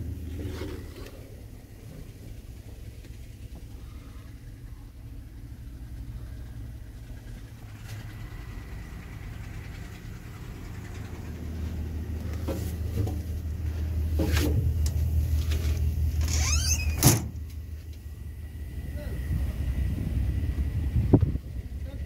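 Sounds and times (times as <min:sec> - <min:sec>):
truck diesel engine idling: 0:00.0 - 0:16.3, 0:17.3 - 0:22.0.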